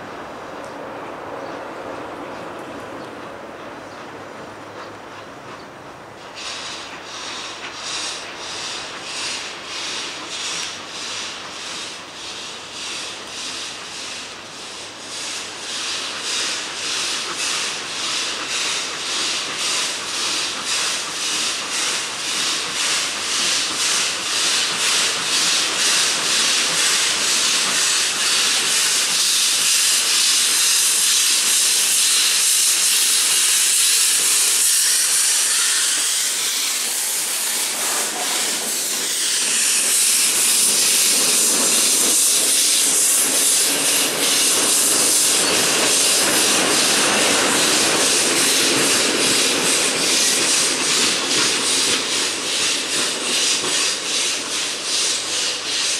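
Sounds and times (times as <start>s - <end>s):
train coaches rolling past: 0.0s - 55.9s
steam hissing from locomotive: 6.0s - 55.9s
steam locomotive exhaust chuffs: 6.1s - 55.9s.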